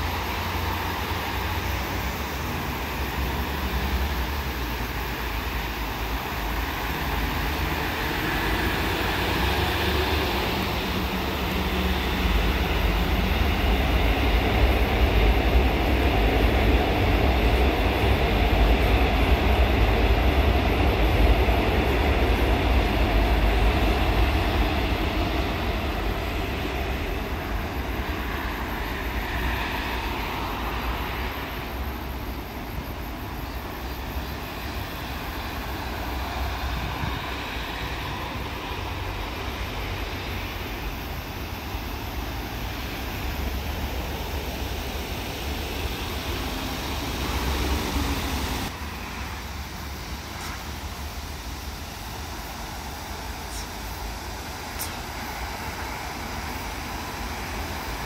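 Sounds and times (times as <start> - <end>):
electric train running: 0.0 - 58.0
road traffic noise: 0.0 - 58.0.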